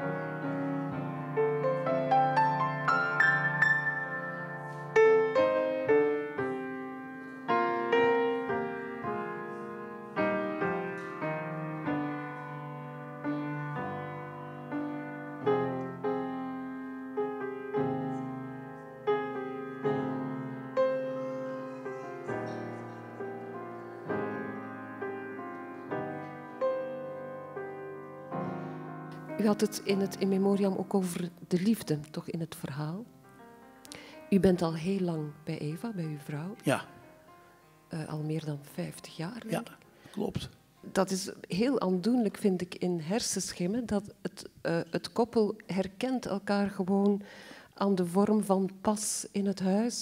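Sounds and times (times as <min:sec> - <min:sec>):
solo piano piece: 0:00.0 - 0:40.8.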